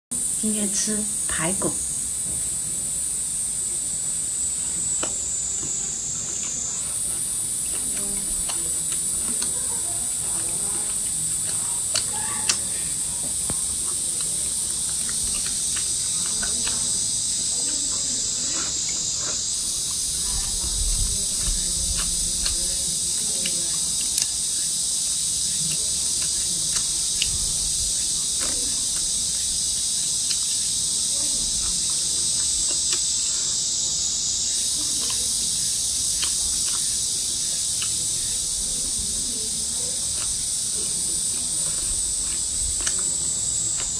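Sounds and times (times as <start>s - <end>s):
insects buzzing: 0.1s - 43.9s.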